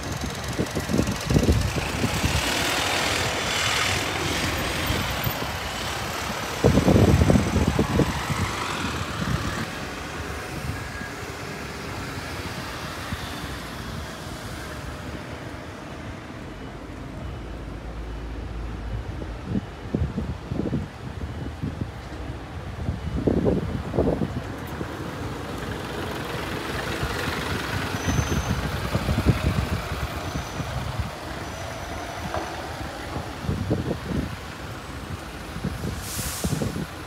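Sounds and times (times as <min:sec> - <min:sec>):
wind buffeting microphone: 0:00.0 - 0:15.1, 0:18.8 - 0:37.0
bus passing: 0:00.0 - 0:37.0.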